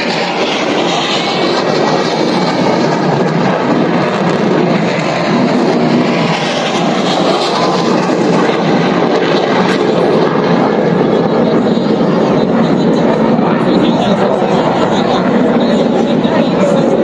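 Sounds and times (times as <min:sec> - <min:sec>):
jet engines rushing overhead: 0:00.0 - 0:17.0.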